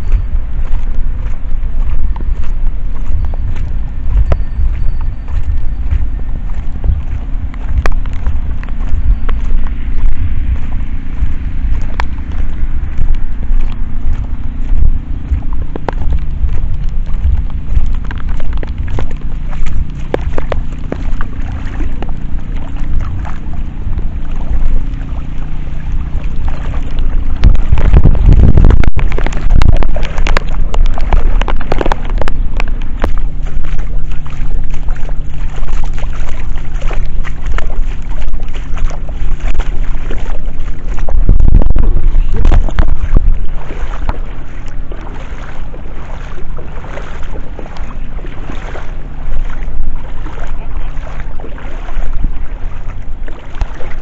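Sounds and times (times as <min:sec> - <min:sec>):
steady low hum: 0:00.0 - 0:54.0
wind buffeting the microphone: 0:00.0 - 0:54.0.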